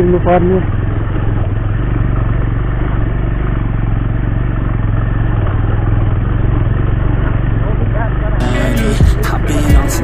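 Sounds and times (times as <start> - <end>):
motorcycle rattling over stones: 0.0 - 8.2
motorcycle engine running: 0.0 - 10.0.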